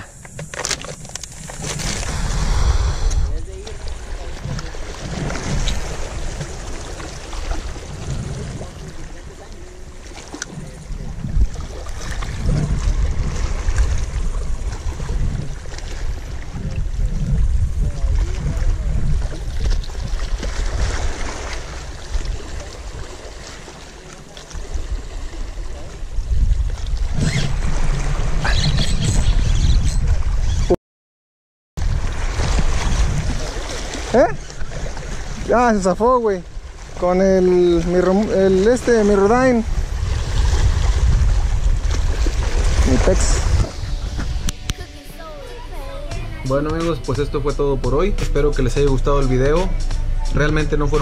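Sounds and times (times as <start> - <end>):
wind buffeting microphone: 0.0 - 23.6, 24.5 - 30.7, 31.8 - 51.0
waves lapping against rocks: 0.0 - 30.7, 31.8 - 47.2.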